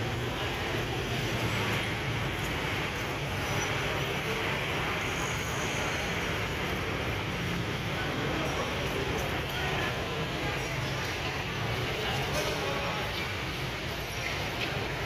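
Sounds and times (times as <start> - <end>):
busy market din: 0.0 - 15.0.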